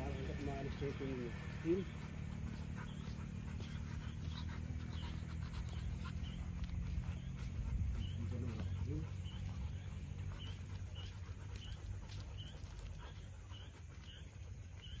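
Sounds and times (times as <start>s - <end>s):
dog panting: 0.0s - 15.0s
low rumble: 0.0s - 15.0s.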